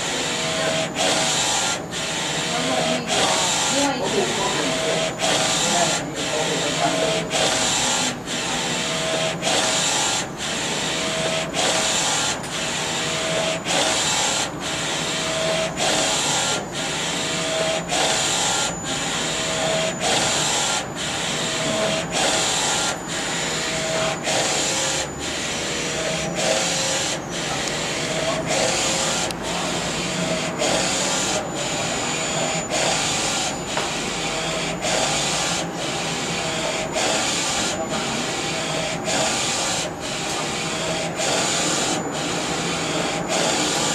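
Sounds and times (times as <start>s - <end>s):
printer carriage whirring: 0.0s - 43.9s.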